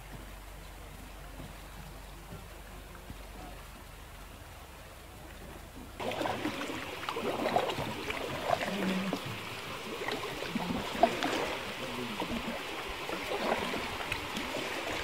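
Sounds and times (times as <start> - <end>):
small splashes and drips: 0.0 - 15.0
water lapping against kayak hull: 0.0 - 15.0.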